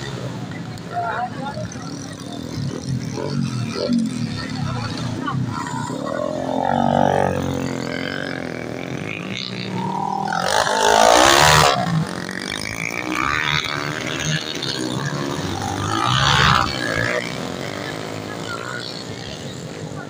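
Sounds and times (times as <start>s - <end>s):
dirt bike engines revving past: 0.0s - 20.0s.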